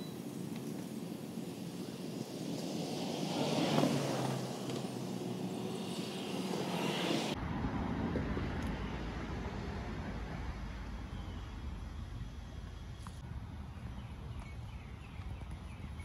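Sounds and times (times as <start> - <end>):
propeller aircraft passing overhead: 0.0 - 16.0.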